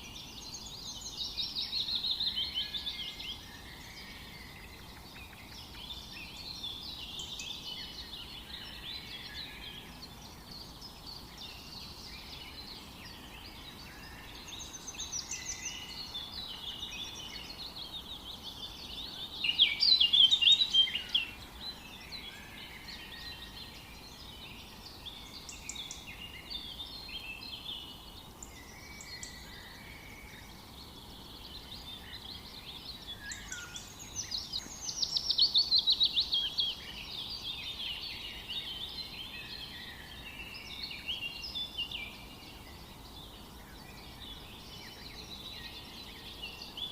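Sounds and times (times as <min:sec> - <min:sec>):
birds singing and chirping: 0:00.0 - 0:46.9
faint forest background hiss: 0:00.0 - 0:46.9.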